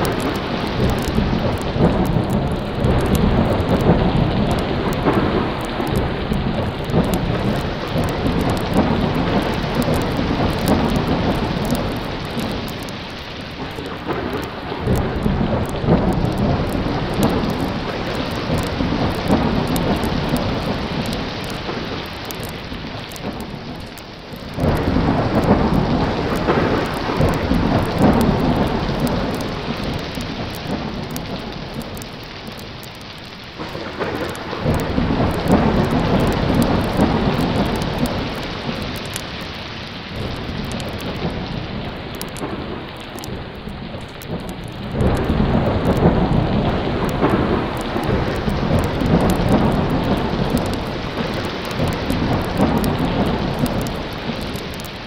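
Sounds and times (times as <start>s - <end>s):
low thunder rolling: 0.0s - 55.0s
steady rain: 0.0s - 55.0s.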